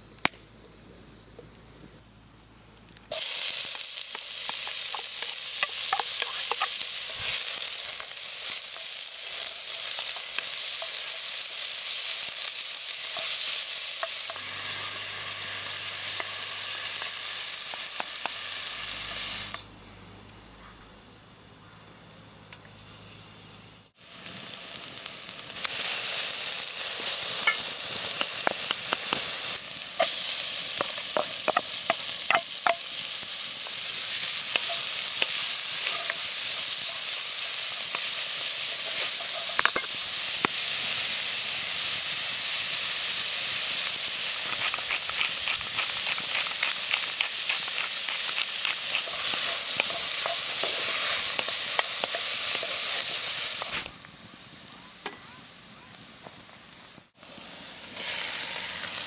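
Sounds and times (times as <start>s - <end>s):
food sizzling in a pan: 3.1s - 19.7s, 22.7s - 55.9s, 56.6s - 59.0s.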